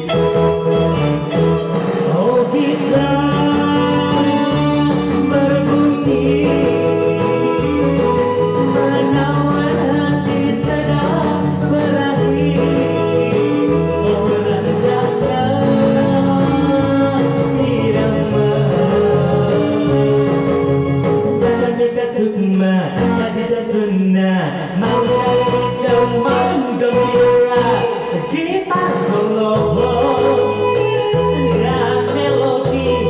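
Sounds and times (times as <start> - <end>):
karaoke backing track: 0.0 - 33.0
man singing into microphone: 0.0 - 33.0.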